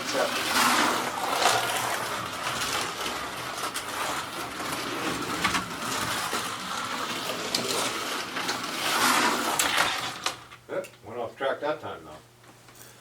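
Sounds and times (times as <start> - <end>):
slot car motor whining: 0.0 - 10.5.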